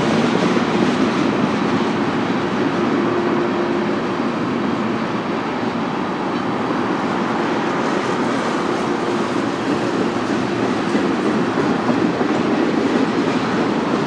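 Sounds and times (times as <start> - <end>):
steel wheels on rail: 0.0 - 14.0.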